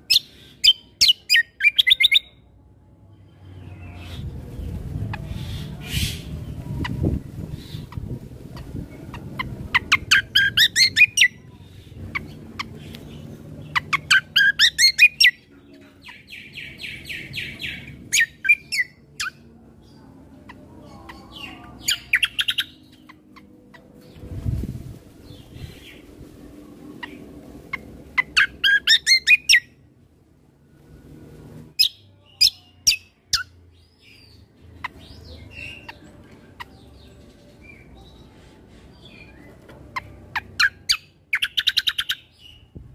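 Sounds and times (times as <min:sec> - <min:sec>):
songbird chirping: 0:00.0 - 0:42.9.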